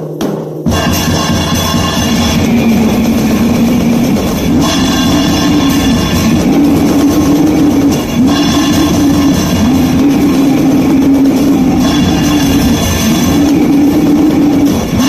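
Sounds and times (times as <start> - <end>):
distorted guitar and drums: 0.0 - 15.0.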